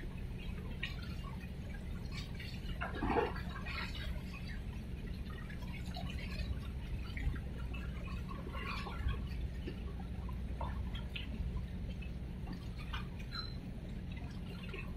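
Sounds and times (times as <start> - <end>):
steady low rumble: 0.0 - 14.9
water lapping and splashing: 0.0 - 14.9.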